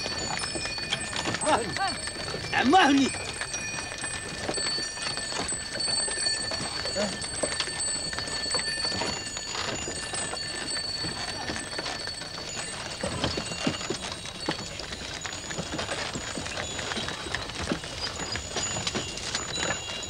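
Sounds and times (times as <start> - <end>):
hooves and cart wheels clattering: 0.0 - 20.0
small bells jingling: 0.0 - 20.0.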